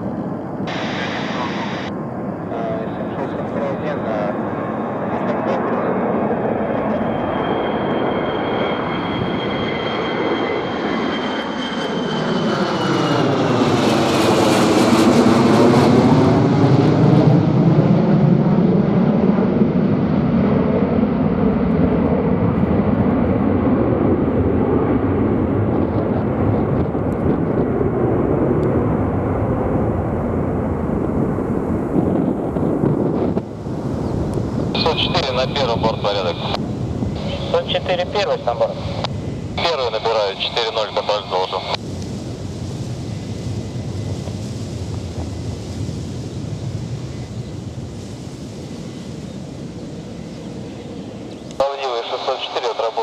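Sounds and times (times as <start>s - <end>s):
jet aircraft passing by: 0.0s - 53.0s.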